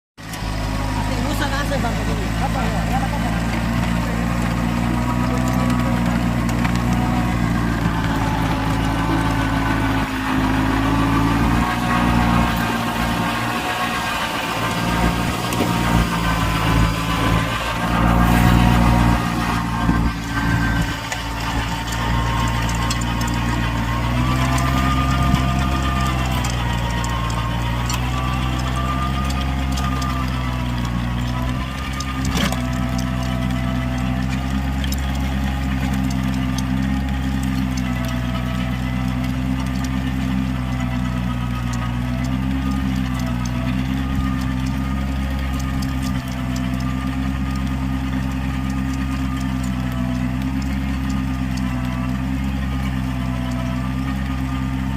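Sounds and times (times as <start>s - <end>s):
tractor diesel engine running: 0.1s - 54.9s
rapid mechanical ticking: 0.2s - 54.9s.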